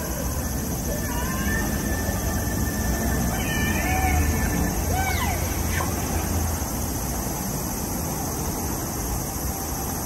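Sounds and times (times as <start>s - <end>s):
constant hiss: 0.0s - 10.0s
traffic hum: 0.0s - 10.0s.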